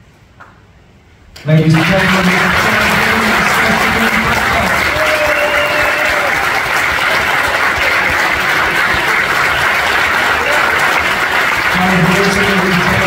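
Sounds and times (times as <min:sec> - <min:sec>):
audience clapping: 0:01.4 - 0:13.0.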